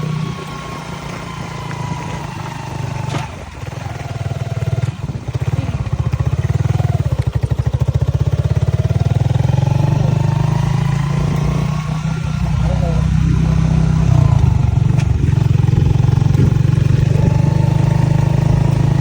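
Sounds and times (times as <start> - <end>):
harvester engine running: 0.0 - 19.0.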